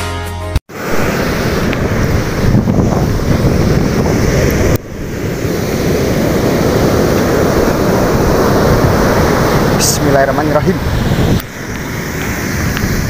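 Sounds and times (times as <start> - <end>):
ocean surf breaking: 0.7 - 13.0
wind buffeting microphone: 0.7 - 13.0.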